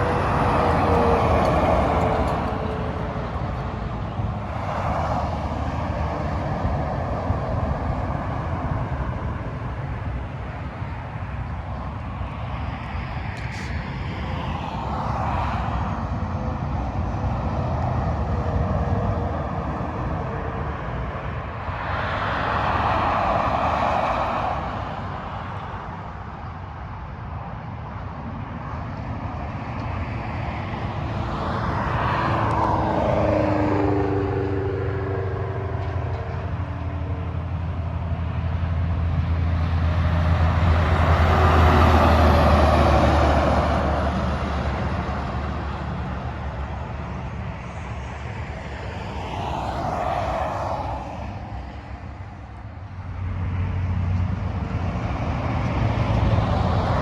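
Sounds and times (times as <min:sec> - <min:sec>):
passing vehicle engine: 0:00.0 - 0:25.9, 0:29.8 - 0:57.0
heavy truck engine drone: 0:00.0 - 0:26.4, 0:30.4 - 0:57.0
traffic tyre noise: 0:00.0 - 0:57.0.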